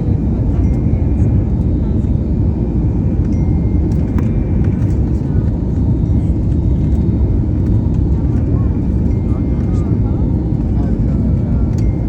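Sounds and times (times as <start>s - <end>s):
airliner roar: 0.0s - 12.0s.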